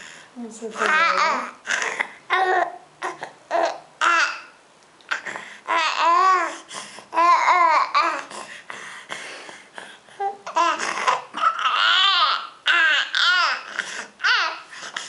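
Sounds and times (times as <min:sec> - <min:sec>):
baby cooing and babbling: 0:00.7 - 0:08.5, 0:10.2 - 0:15.0.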